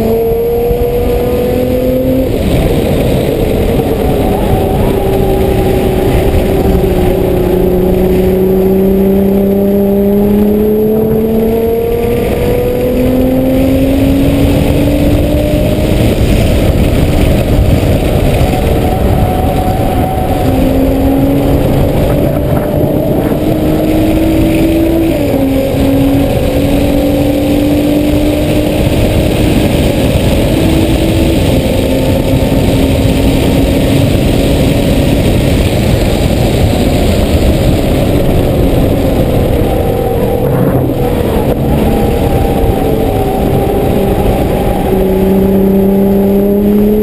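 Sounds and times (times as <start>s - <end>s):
car engine revving: 0.0s - 47.0s
road and wind noise: 0.0s - 47.0s.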